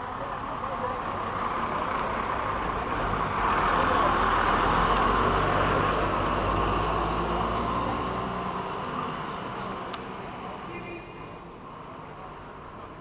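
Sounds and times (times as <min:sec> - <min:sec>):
heavy truck passing: 0:00.0 - 0:10.7
steady road noise: 0:00.0 - 0:13.0.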